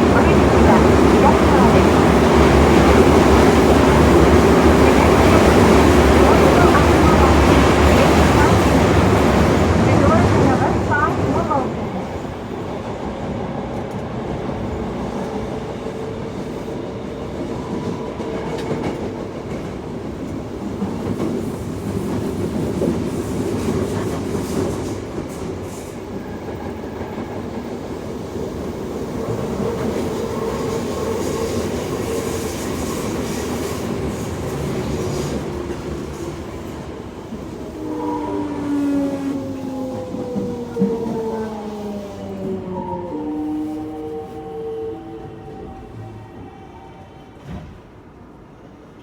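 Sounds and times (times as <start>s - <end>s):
train wheel and rail noise: 0.0s - 49.0s.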